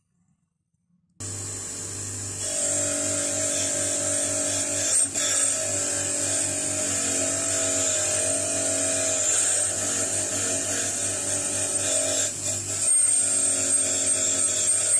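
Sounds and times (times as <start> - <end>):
bench grinder motor hum: 1.2 - 14.9.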